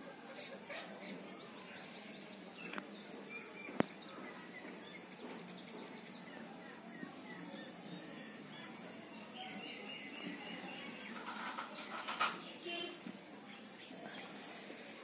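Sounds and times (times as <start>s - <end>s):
steady background noise: 0.0s - 15.0s
faint bird chirps: 1.4s - 14.4s.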